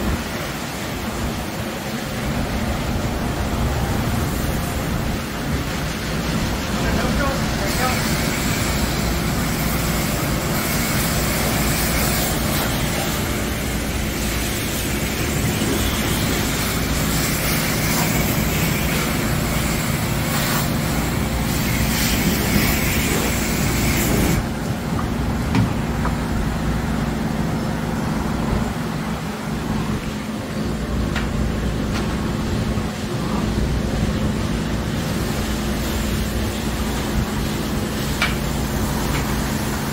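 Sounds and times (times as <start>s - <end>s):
car wash machinery humming: 0.0s - 39.9s
hissing water spray: 0.0s - 39.9s.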